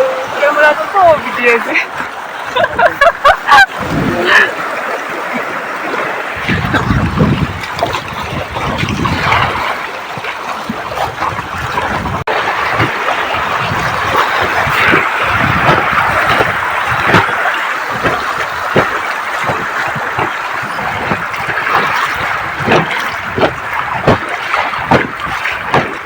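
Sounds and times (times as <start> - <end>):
river water rushing and splashing: 0.0 - 26.0.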